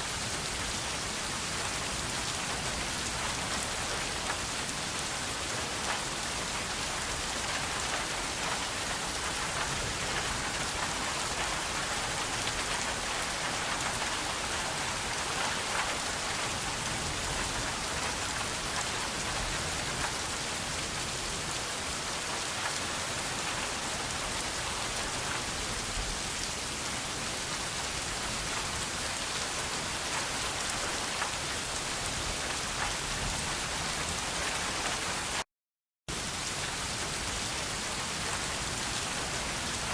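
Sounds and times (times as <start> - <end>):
steady rain hiss: 0.0 - 35.4, 36.1 - 39.9.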